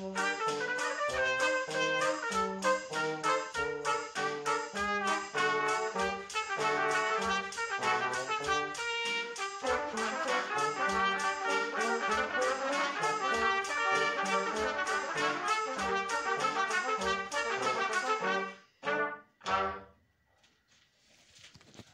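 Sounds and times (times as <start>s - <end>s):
brass ensemble playing chords: 0.0s - 19.9s.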